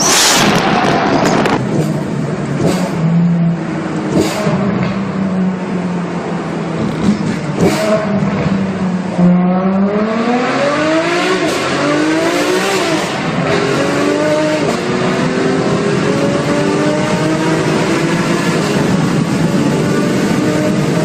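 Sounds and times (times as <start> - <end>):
supercar engine accelerating in tunnel: 0.0 - 21.0.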